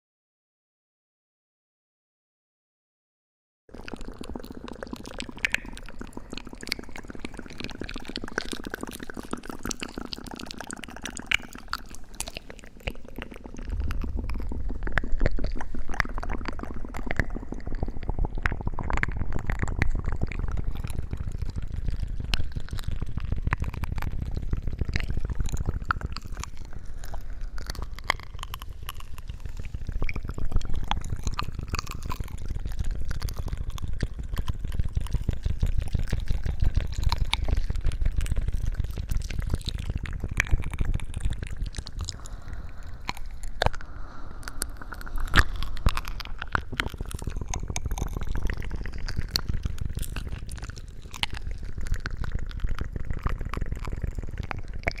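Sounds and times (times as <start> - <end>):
wet crackling and squishing: 3.8 - 55.0.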